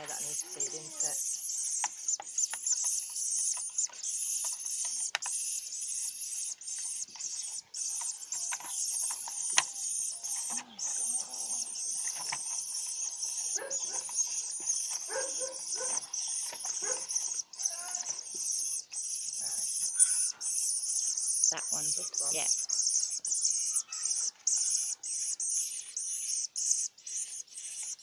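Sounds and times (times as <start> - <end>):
nestlings cheeping: 0.0 - 28.0.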